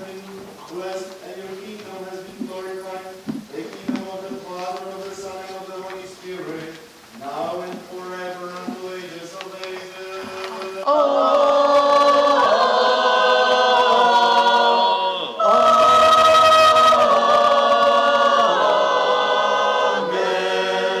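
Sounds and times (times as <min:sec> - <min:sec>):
unaccompanied choir singing: 0:00.0 - 0:21.0.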